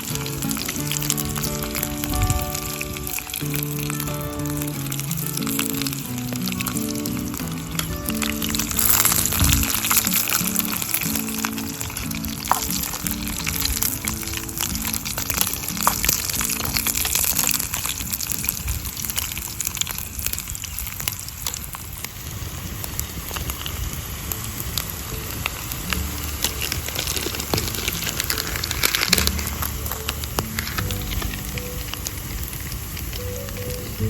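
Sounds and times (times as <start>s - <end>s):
campfire crackling and popping: 0.0s - 34.0s
food sizzling in a pan: 0.0s - 34.0s.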